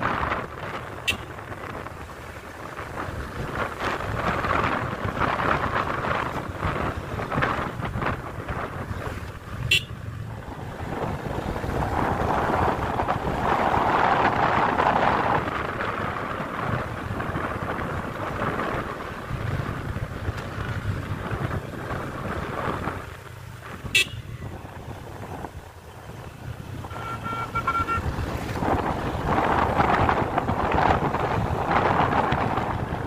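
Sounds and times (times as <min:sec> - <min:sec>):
motorcycle running: 0:00.0 - 0:33.0
wind rushing over microphone: 0:00.0 - 0:33.0.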